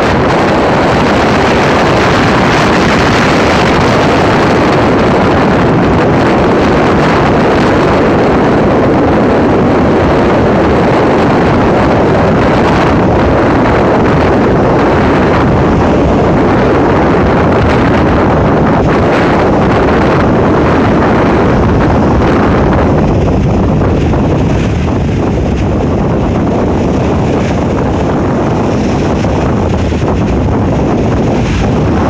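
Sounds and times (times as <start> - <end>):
breaking surf: 0.0 - 32.0
wind buffeting microphone: 0.0 - 32.0.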